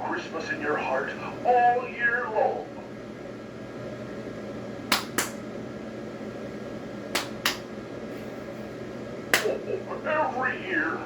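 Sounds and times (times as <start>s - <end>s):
mechanism humming: 0.0s - 11.0s.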